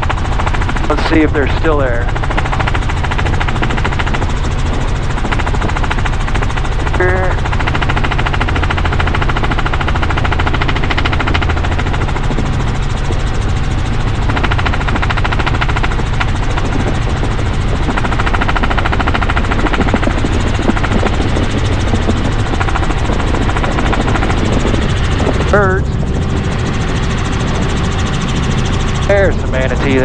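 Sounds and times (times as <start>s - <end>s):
helicopter rotor chopping: 0.0s - 30.0s.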